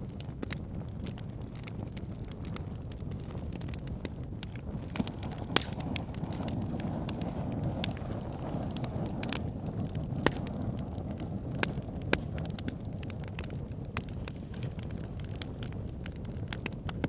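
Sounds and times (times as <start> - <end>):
fire crackling: 0.0 - 17.0
fire popping: 0.0 - 17.0.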